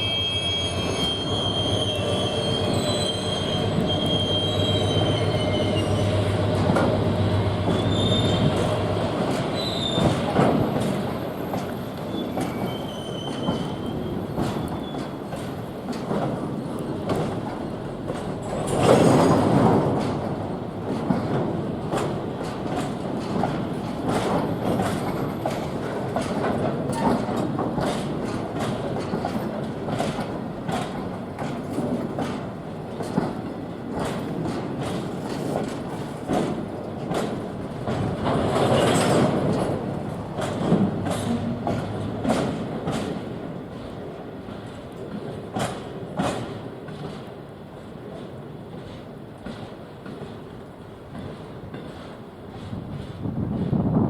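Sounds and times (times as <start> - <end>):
freight train wagons rolling: 0.0 - 54.0
wheels clicking over rail joints: 6.5 - 54.0.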